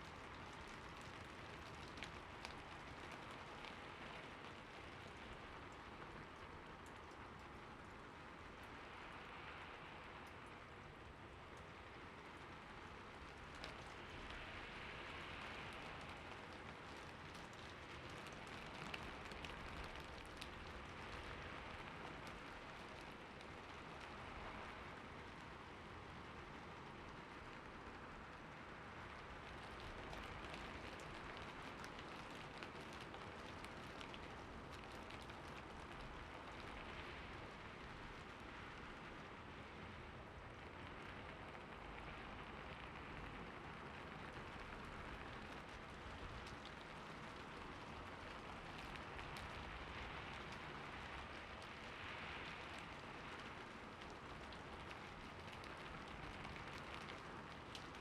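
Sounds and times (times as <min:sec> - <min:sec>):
rain falling on surface: 0:00.0 - 0:58.0.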